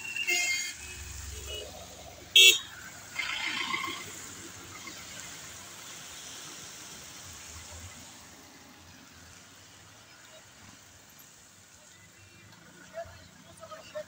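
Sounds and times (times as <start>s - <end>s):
van tyres hissing on wet road: 0.0s - 12.8s.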